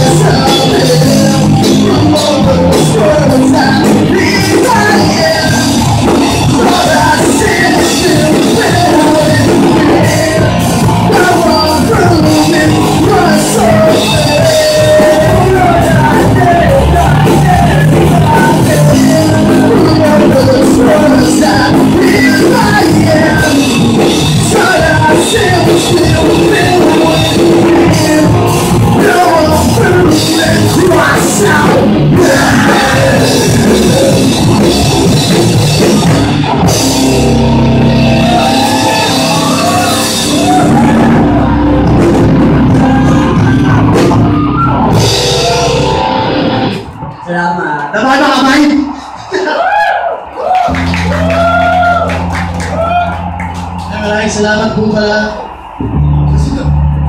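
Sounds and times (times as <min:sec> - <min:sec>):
person singing: 0:00.0 - 0:46.3
rock band playing: 0:00.0 - 0:57.0.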